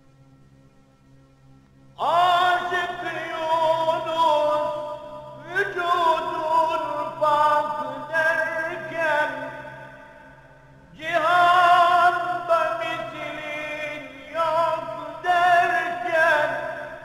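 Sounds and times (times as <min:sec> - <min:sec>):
man singing a slow chant: 0:02.0 - 0:17.0.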